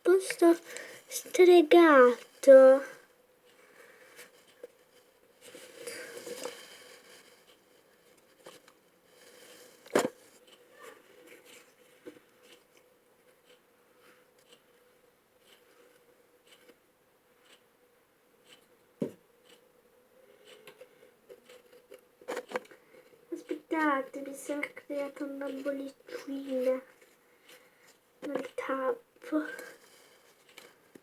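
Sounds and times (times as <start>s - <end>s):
soft rustling: 0.0s - 16.8s, 20.8s - 31.0s.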